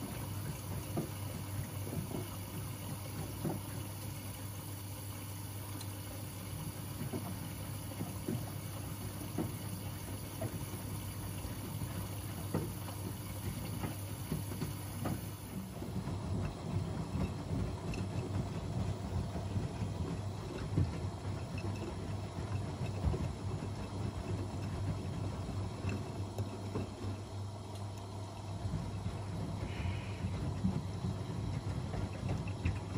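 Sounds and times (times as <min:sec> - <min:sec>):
washing machines humming: 0:00.0 - 0:32.9.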